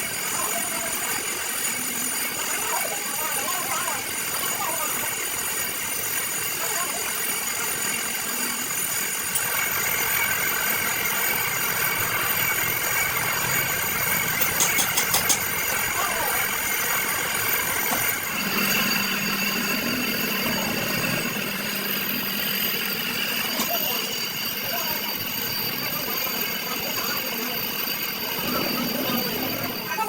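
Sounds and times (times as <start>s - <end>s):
machine running: 0.0s - 30.0s.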